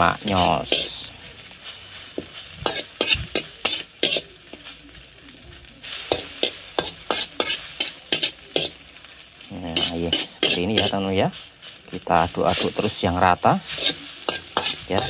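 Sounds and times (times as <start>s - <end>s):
metal spatula scraping a wok: 0.0s - 5.2s, 5.8s - 15.0s
noodles sizzling: 0.0s - 15.0s.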